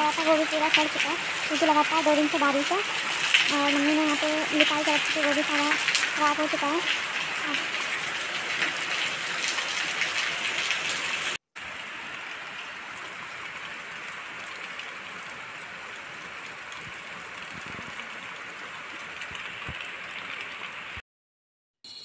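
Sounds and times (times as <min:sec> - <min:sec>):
heavy rain on pavement: 0:00.0 - 0:21.0
running water: 0:00.0 - 0:21.0.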